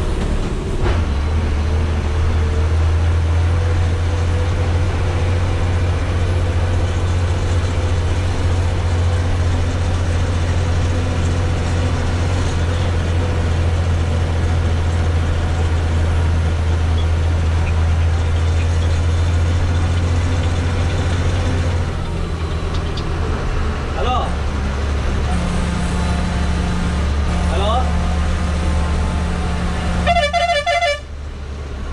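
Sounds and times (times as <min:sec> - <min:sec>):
truck diesel engine droning: 0:00.0 - 0:31.9.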